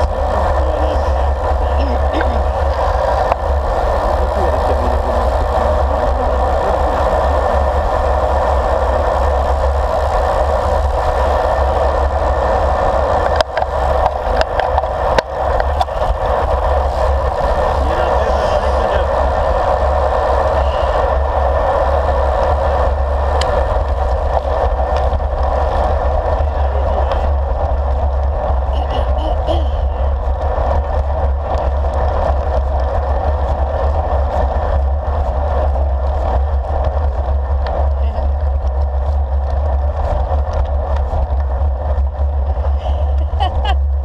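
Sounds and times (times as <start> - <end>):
bike tyres rolling on asphalt: 0.0 - 44.0
wind rush: 0.0 - 44.0.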